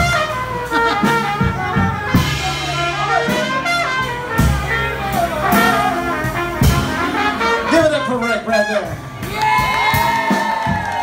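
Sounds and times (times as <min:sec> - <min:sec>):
brass horns melody: 0:00.0 - 0:11.0
jazz band playing: 0:00.0 - 0:11.0.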